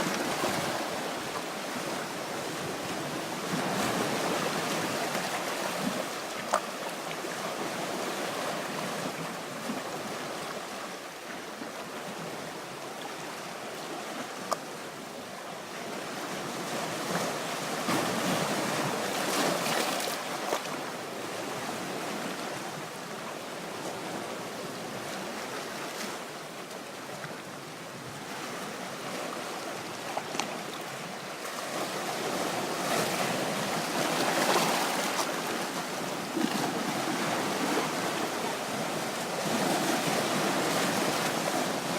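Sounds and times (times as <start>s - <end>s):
surf washing on shore: 0.0s - 41.9s.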